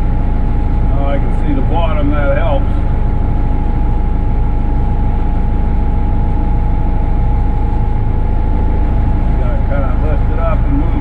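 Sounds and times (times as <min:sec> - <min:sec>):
diesel engine running: 0:00.0 - 0:11.0
steady whine: 0:00.0 - 0:11.0.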